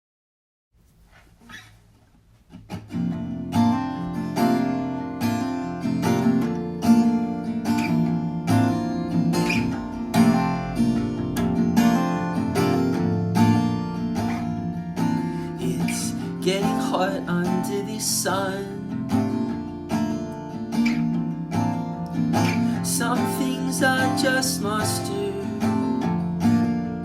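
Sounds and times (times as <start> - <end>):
acoustic guitar playing: 1.0 - 27.0.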